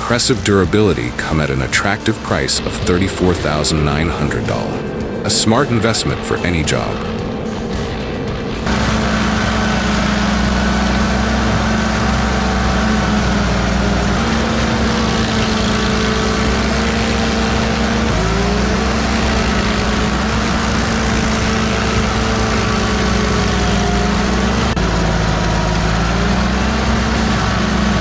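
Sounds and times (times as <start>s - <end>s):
engine-driven machine running: 0.0s - 28.0s.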